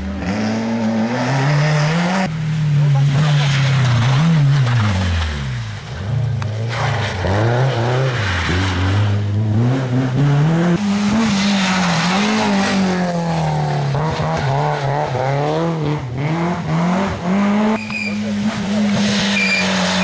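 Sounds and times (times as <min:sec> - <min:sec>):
rally car engine revving: 0:00.0 - 0:20.0
tyres skidding: 0:00.0 - 0:20.0.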